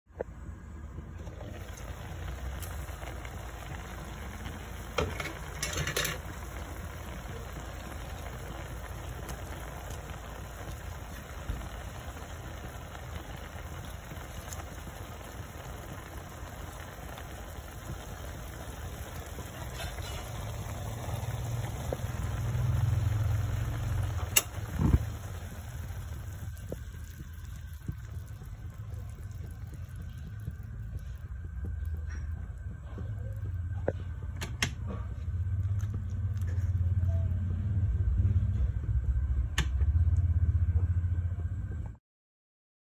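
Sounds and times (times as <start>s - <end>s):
low rumble: 0.1s - 42.0s
sauce bubbling in a pot: 0.9s - 40.3s.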